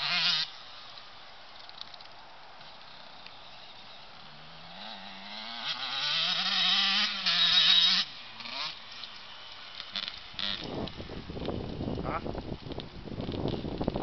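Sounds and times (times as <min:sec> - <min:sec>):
dirt bike engine accelerating: 0:00.0 - 0:00.6, 0:02.6 - 0:14.0.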